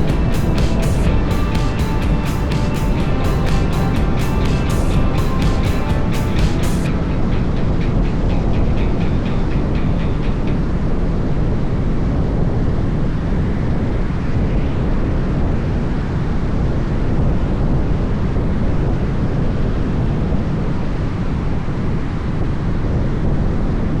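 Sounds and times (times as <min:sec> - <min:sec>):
loud rumbling outdoor noise: 0:00.0 - 0:24.0.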